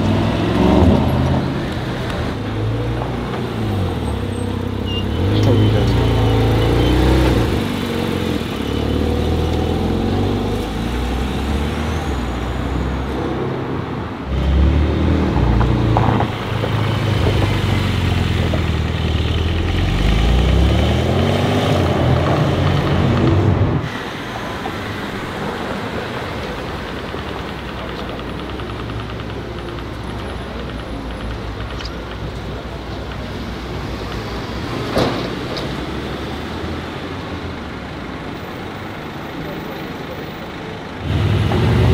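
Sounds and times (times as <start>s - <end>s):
car engines revving: 0.0s - 41.9s
street traffic noise: 0.0s - 41.9s.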